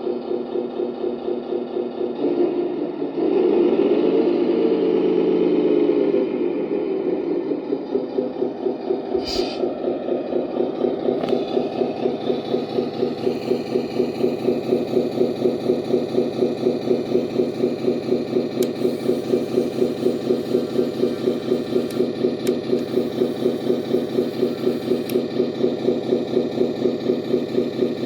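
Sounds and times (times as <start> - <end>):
truck engine sound from speaker: 0.0 - 28.0.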